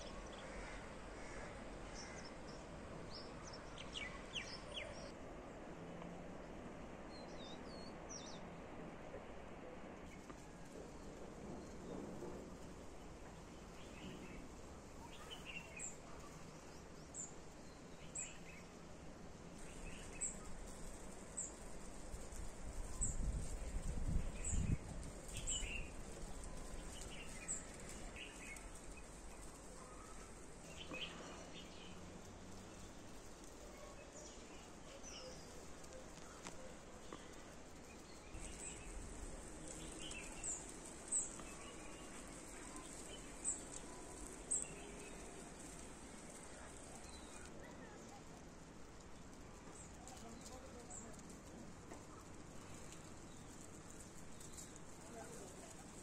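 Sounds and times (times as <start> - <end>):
small birds chirping: 0.0 - 5.2, 7.0 - 8.5, 10.0 - 56.0
faint background noise: 0.0 - 56.0.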